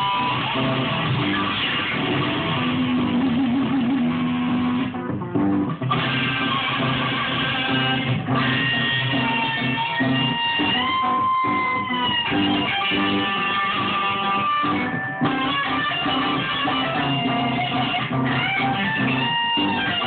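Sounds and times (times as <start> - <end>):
electric guitar blues lead: 0.0 - 20.0.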